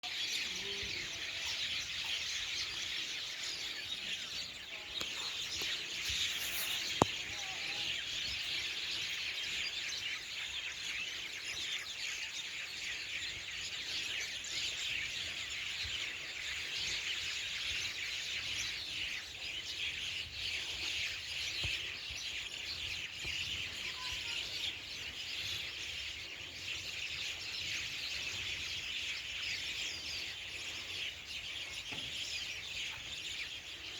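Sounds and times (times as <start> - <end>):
forest birds chirping: 0.0 - 33.9.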